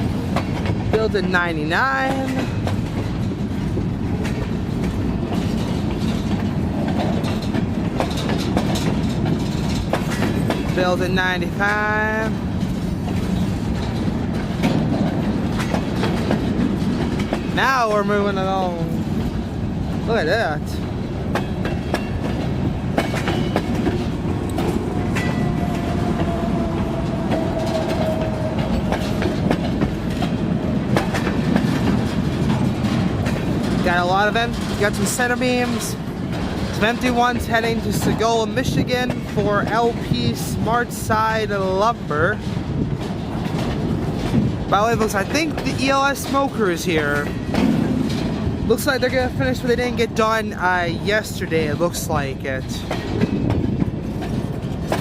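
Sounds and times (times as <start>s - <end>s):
wheels clanking over rail joints: 0.0s - 55.0s
wheels rumbling on rail: 0.0s - 55.0s.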